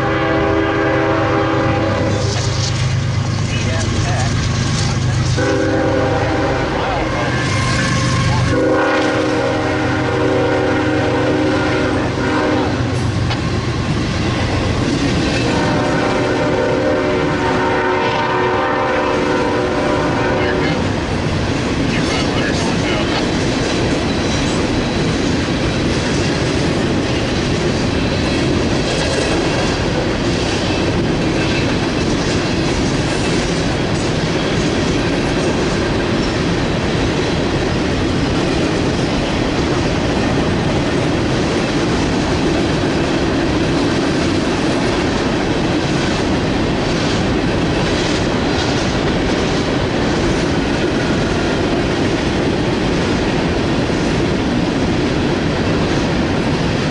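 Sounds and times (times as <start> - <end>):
train wheels rumbling on rails: 0.0 - 56.9.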